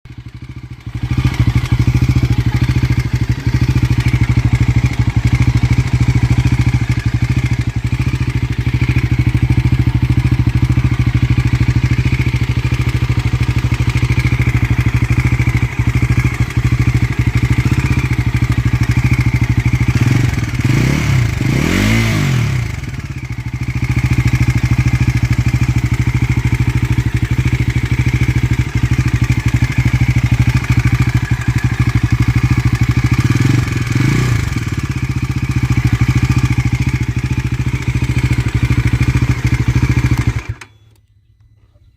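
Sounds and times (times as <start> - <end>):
motorcycle engine idling and revving: 0.0 - 41.9
engine ticking: 0.1 - 41.5.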